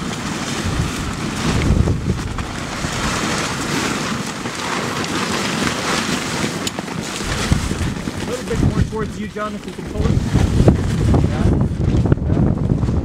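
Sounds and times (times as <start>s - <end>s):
fabric rustling and flapping: 0.0s - 13.0s
wind buffeting microphone: 0.0s - 13.0s.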